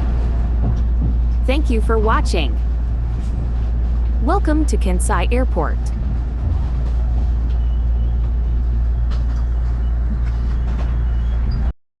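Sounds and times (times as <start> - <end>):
train rumbling: 0.0 - 11.7.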